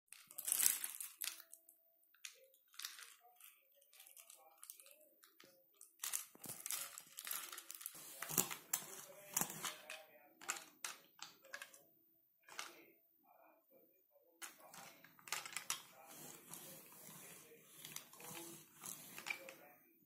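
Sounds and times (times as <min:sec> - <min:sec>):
plastic toys clicking and rattling: 0:00.1 - 0:01.6, 0:02.2 - 0:11.8, 0:14.4 - 0:19.6.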